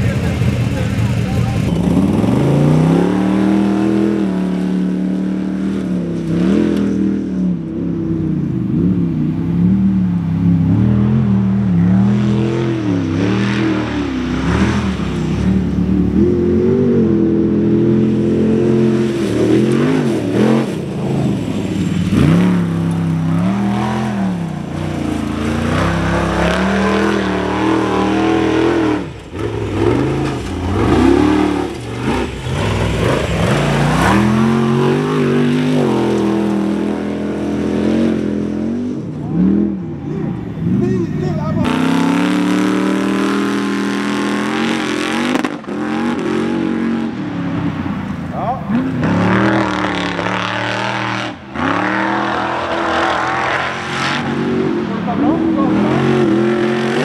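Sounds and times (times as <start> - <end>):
buggy engine revving hard: 0.0 - 57.0.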